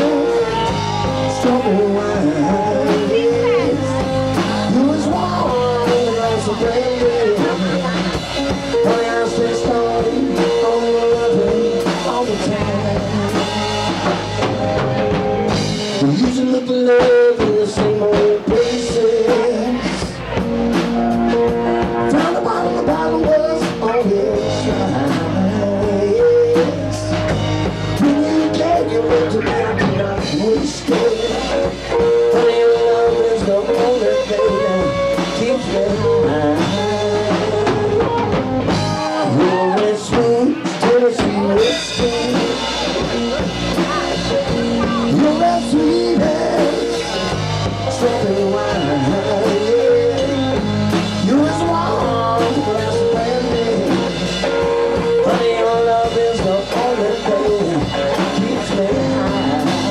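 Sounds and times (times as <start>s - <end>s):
lead electric guitar: 0.0s - 59.9s
live blues-rock band: 0.0s - 59.9s.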